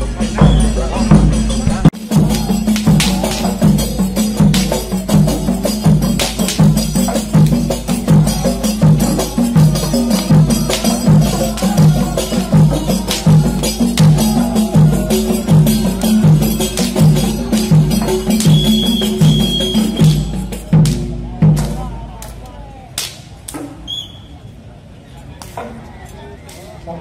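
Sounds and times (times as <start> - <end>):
frame drums playing: 0.0 - 22.0.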